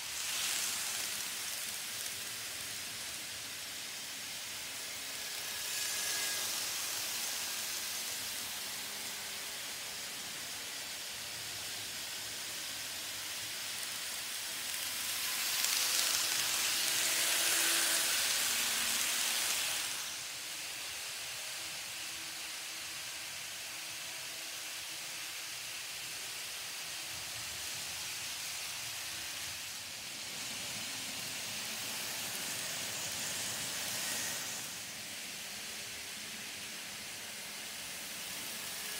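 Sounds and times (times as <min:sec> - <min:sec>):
model train wheels hissing: 0:00.0 - 0:38.9.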